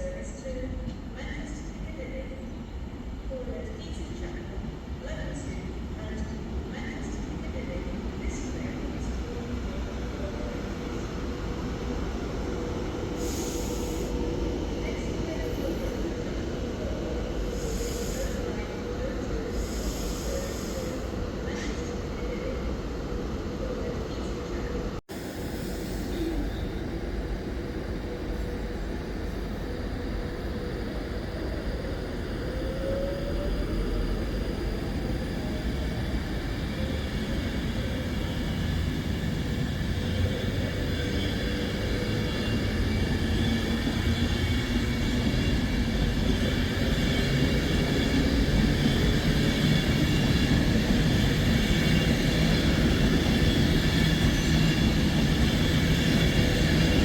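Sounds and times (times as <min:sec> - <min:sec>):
train rumbling on tracks: 0:00.0 - 0:57.0.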